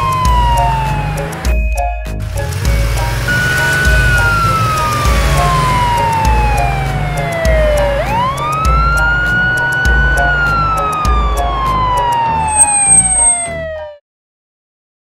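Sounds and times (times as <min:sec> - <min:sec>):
police siren wailing: 0:00.0 - 0:01.5, 0:03.3 - 0:14.0
background music with bass beat: 0:00.0 - 0:13.3.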